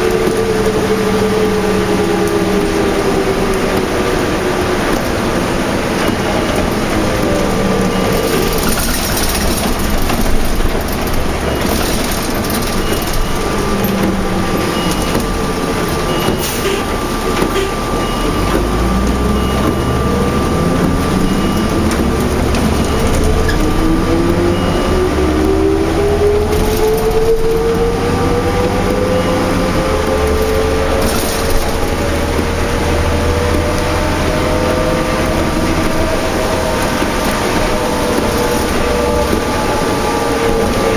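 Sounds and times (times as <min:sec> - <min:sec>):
bus engine and drivetrain: 0:00.0 - 0:40.9.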